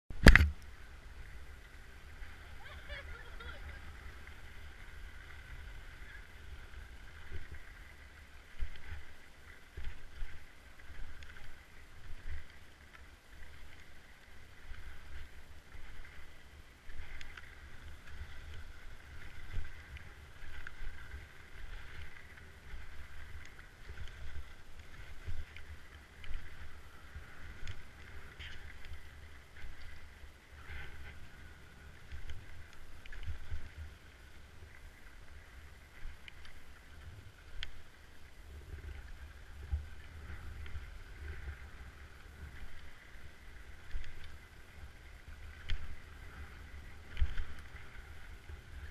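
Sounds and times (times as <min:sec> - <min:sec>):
wind rumble on microphone: 0:00.1 - 0:48.9.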